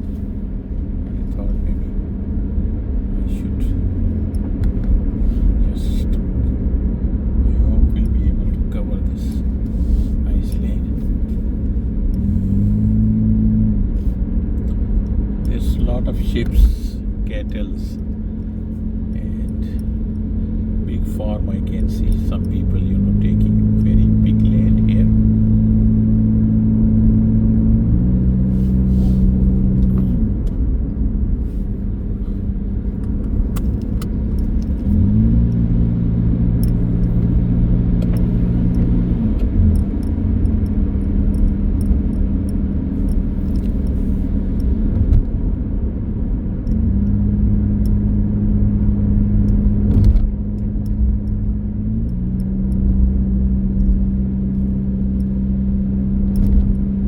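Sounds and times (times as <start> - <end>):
car engine hum: 0.0 - 57.0
road rumble: 0.0 - 57.0.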